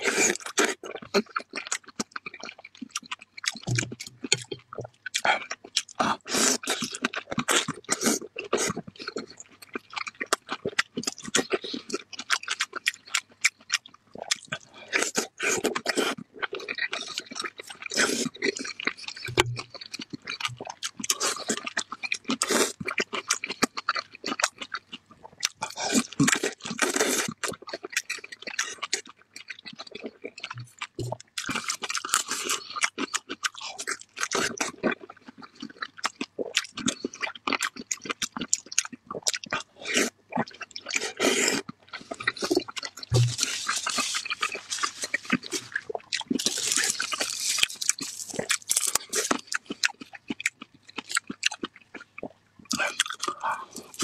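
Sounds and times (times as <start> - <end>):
chewing and biting pork: 0.0 - 54.0.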